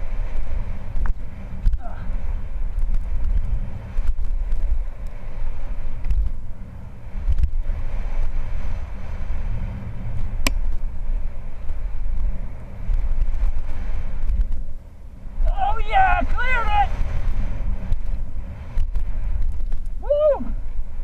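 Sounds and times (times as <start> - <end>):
bike rattles and clicks: 0.0 - 21.0
bike tyres on dirt: 0.0 - 21.0
wind on microphone: 0.0 - 21.0.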